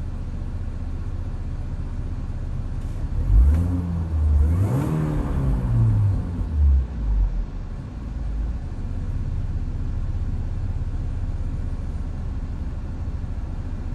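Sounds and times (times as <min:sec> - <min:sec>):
car engine cold start and idle: 0:00.0 - 0:13.9.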